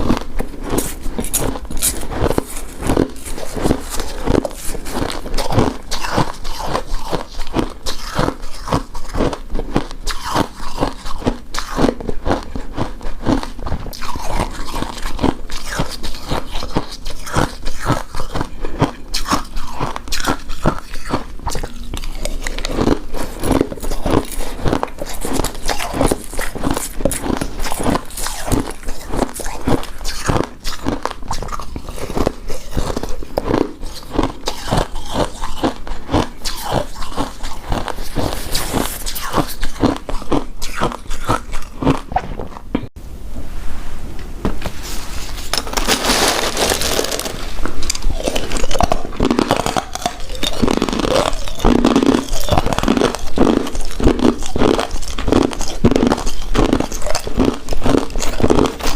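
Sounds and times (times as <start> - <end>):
person chewing: 0.0 - 43.0, 44.9 - 58.9.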